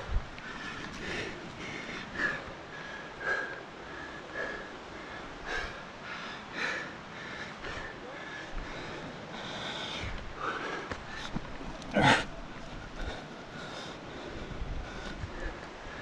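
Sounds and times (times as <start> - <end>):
person breathing hard: 0.4 - 16.0.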